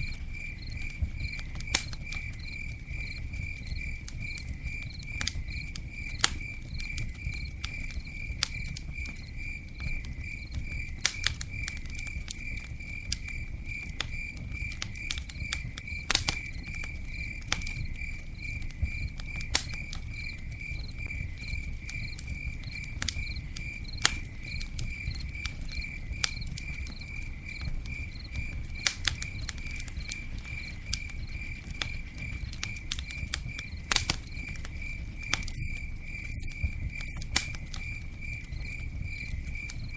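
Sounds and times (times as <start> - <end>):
campfire crackling and popping: 0.0 - 39.9
insect chirping: 0.0 - 39.9.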